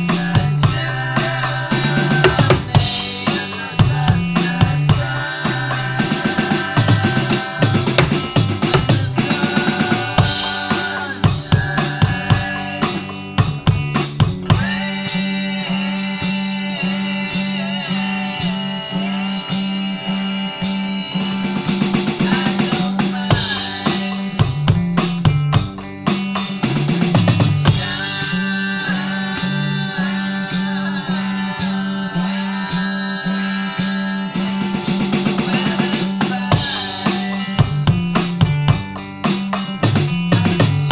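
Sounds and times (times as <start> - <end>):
song with guitar and drums: 0.0 - 40.9.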